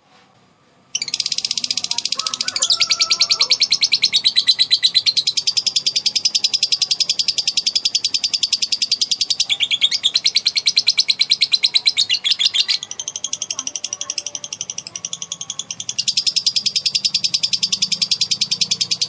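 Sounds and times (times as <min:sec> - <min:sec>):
lovebird chattering trill: 0:01.0 - 0:19.0.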